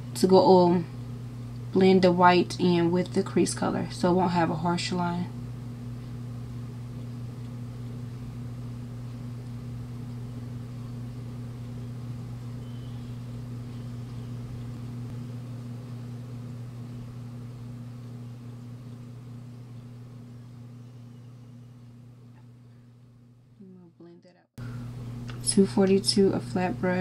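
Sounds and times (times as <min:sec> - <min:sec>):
fainter higher hum: 0:00.0 - 0:27.0
steady low hum: 0:00.0 - 0:27.0.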